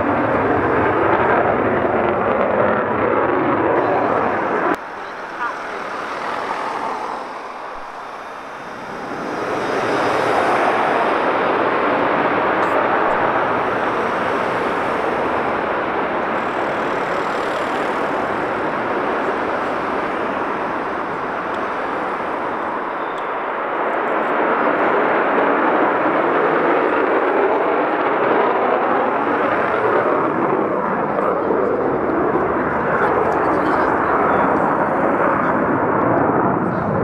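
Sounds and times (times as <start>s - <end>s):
jet taking off: 0.0s - 37.0s.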